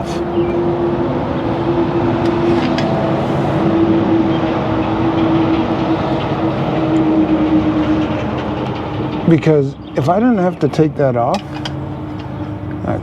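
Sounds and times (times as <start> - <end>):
machine rushing hum: 0.0 - 13.0.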